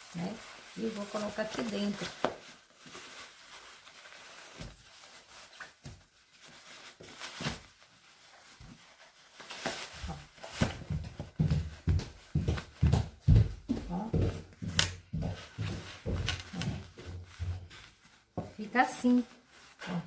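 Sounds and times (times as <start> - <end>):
jacket rustling: 0.0 - 20.0.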